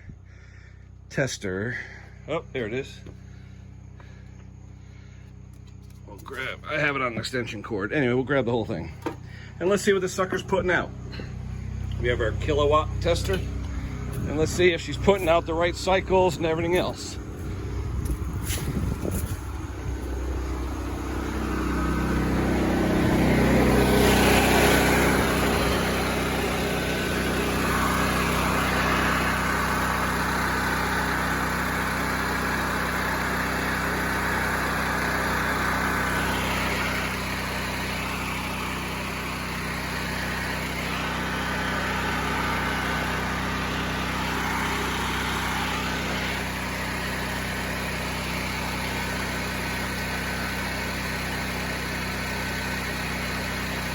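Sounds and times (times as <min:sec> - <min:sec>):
small generator engine running: 0:00.0 - 0:53.9.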